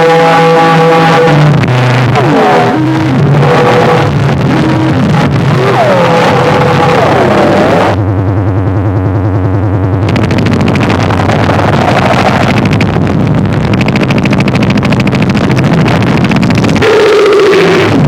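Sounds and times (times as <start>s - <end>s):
electronic noise drone with stuttering pulse: 0.0s - 18.0s.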